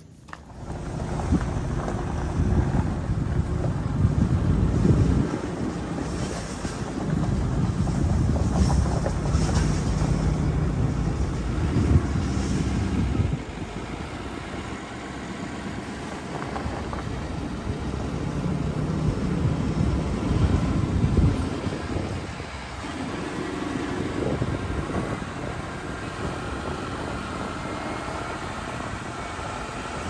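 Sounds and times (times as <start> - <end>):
wind noise on microphone: 0.0 - 14.7, 15.6 - 30.0
vehicle engine running: 0.0 - 30.0.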